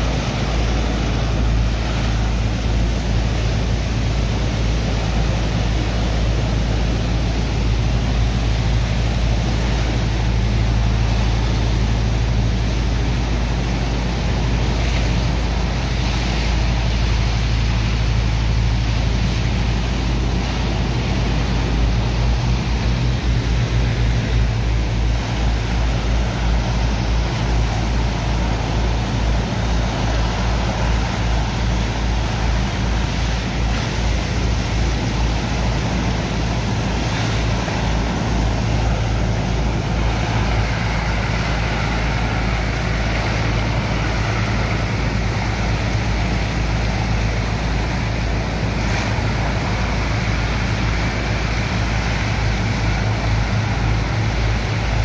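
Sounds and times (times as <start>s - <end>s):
pumping machinery droning: 0.0s - 55.0s
water jets rushing and splashing: 0.0s - 55.0s.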